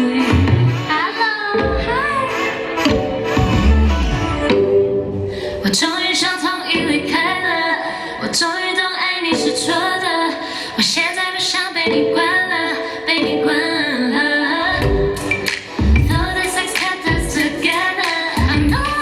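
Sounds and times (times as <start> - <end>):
woman singing: 0.0 - 4.7, 5.4 - 15.3, 16.0 - 19.0.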